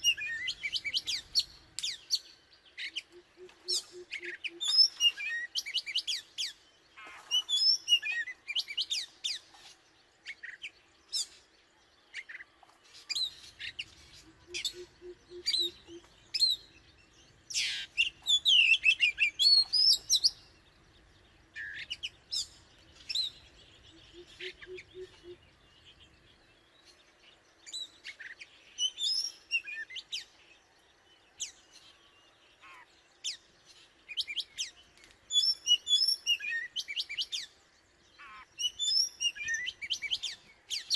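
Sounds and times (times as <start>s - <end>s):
bird singing whistles and trills: 0.0s - 33.4s, 34.0s - 37.6s, 38.2s - 40.9s.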